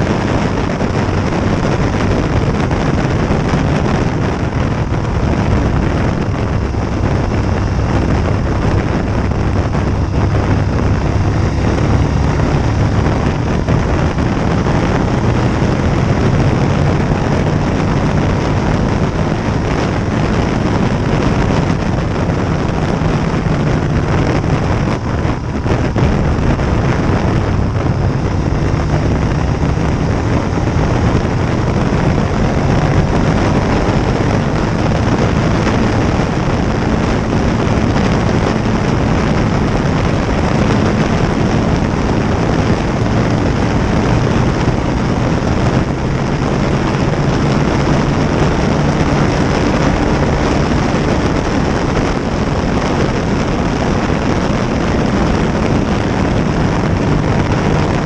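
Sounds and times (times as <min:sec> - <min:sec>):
motorcycle engine running: 0:00.0 - 0:58.0
wind rushing on microphone: 0:00.0 - 0:58.0.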